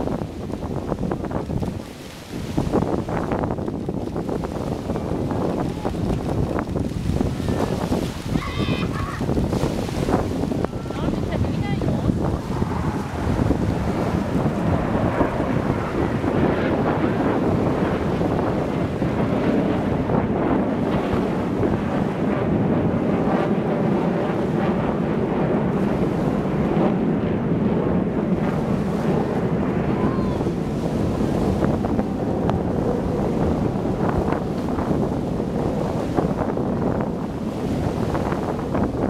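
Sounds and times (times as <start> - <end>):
waves washing: 0.0 - 39.0
wind buffeting microphone: 0.0 - 39.0.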